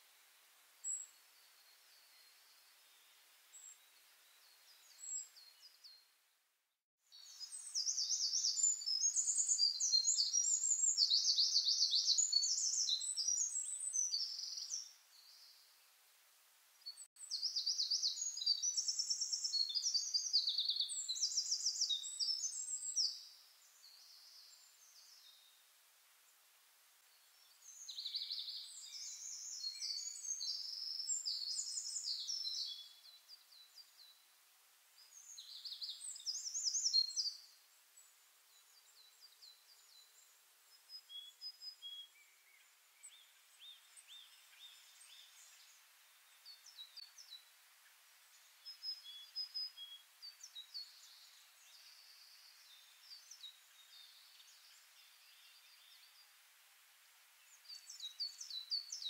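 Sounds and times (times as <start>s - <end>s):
faint hiss: 0.0s - 59.0s
songbird singing: 0.8s - 6.2s, 7.1s - 16.0s, 16.8s - 59.0s.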